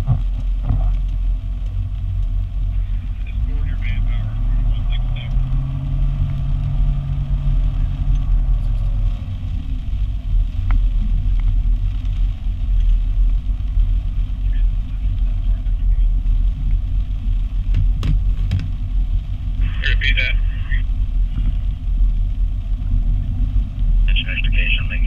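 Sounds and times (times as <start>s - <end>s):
road noise: 0.0s - 25.0s
truck engine rumble: 0.0s - 25.0s.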